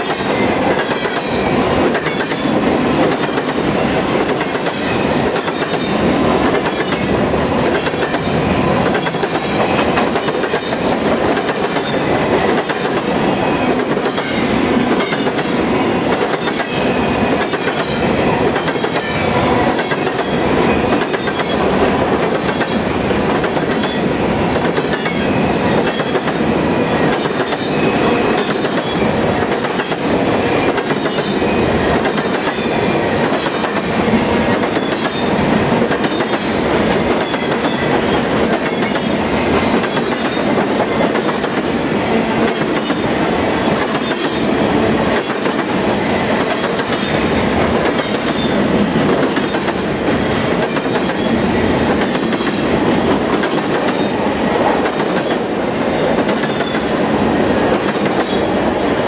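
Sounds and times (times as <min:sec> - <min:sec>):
steel wheels rumbling on rail: 0:00.0 - 0:59.0
train wheels clacking: 0:00.0 - 0:59.0.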